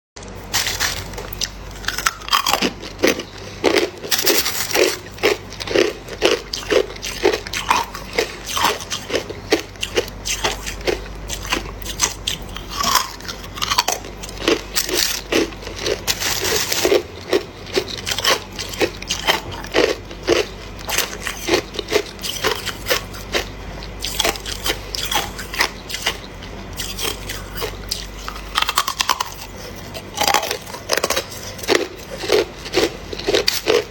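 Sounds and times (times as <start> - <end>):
low steady hum: 0.2 - 33.9
ice being chewed crunching: 0.4 - 33.9.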